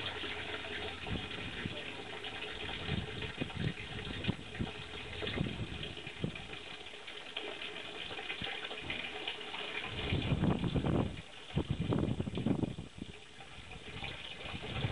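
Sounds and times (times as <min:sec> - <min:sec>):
water pouring into pond: 0:00.0 - 0:14.9
water splashing: 0:00.0 - 0:14.9.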